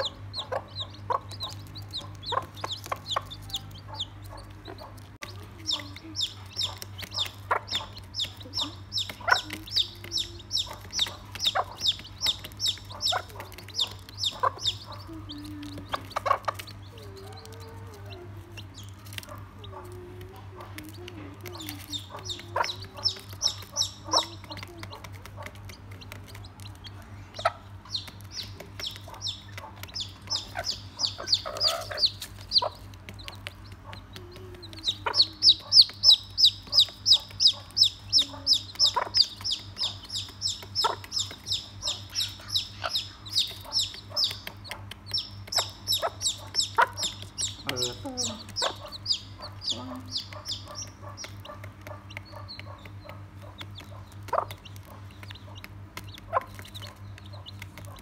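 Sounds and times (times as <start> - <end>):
beak pecking on cardboard: 0.0 - 58.0
chicks peeping: 0.0 - 58.0
hen clucking: 0.0 - 58.0.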